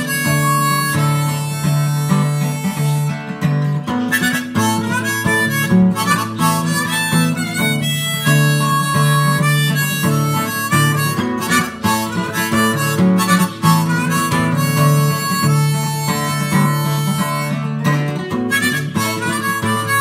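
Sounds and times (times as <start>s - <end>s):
harmonica melody: 0.0s - 20.0s
strummed acoustic guitar: 0.0s - 20.0s.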